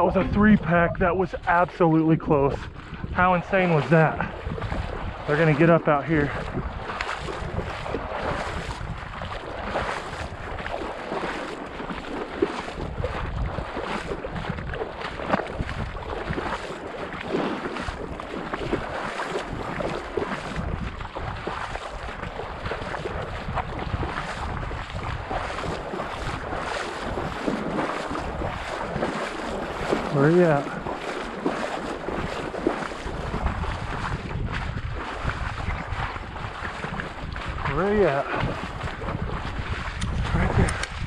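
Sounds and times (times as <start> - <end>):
wading through shallow water: 0.0 - 41.0
wind rumbling on microphone: 0.0 - 41.0.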